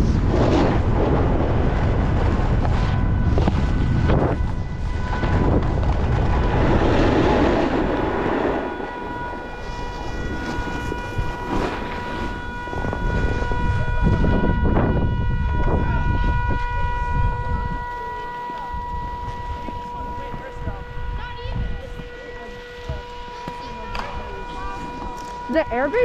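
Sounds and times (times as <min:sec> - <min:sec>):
low rumble: 0:00.0 - 0:26.0
car horn steady note: 0:01.4 - 0:26.0.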